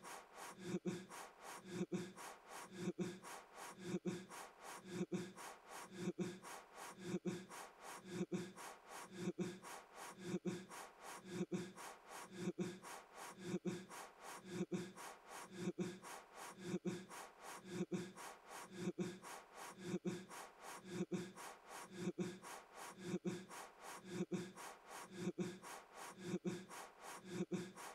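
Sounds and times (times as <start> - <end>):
man breathing in: 0.0 - 27.9.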